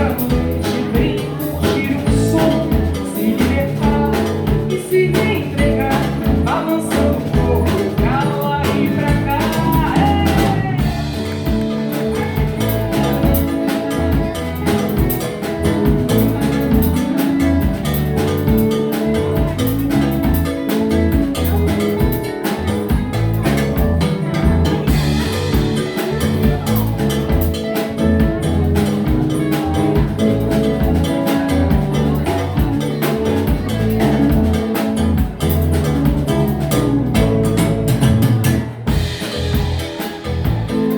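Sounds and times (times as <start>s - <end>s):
acoustic guitar: 0.0s - 40.9s
bass guitar: 0.0s - 40.9s
drum kit: 0.0s - 40.9s.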